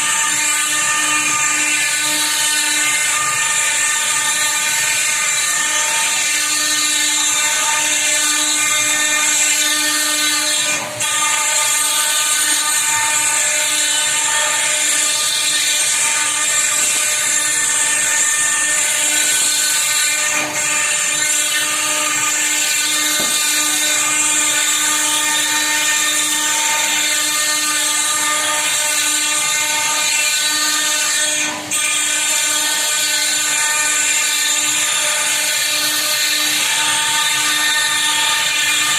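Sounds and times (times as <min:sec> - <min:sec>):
router spindle cutting stone: 0:00.0 - 0:38.9.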